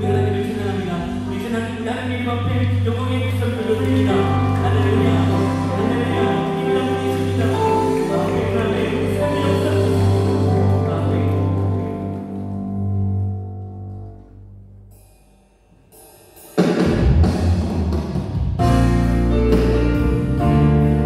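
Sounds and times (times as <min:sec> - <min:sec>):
drum kit: 0:00.0 - 0:14.2, 0:14.9 - 0:21.0
bass guitar: 0:00.0 - 0:14.8, 0:16.8 - 0:21.0
keyboards: 0:00.0 - 0:14.9, 0:16.6 - 0:21.0.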